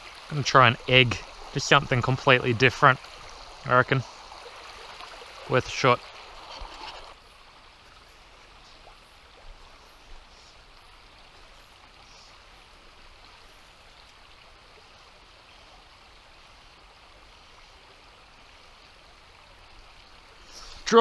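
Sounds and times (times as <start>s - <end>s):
river water running over riffle: 0.0s - 21.0s.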